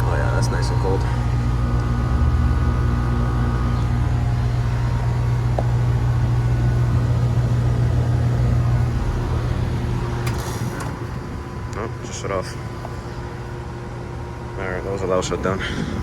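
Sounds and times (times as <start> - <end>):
air conditioner humming: 0.0 - 16.0
air conditioner shutting down: 0.0 - 16.0.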